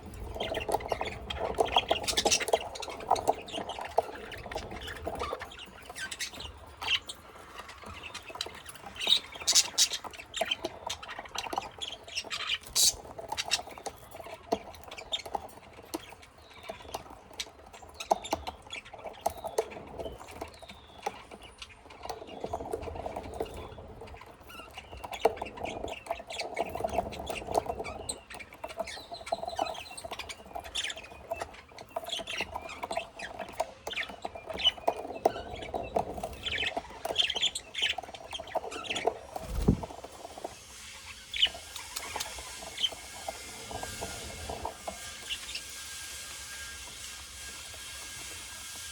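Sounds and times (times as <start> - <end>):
birds scratching and clicking: 0.0 - 48.9
pet birds chirping and chattering: 0.0 - 48.9.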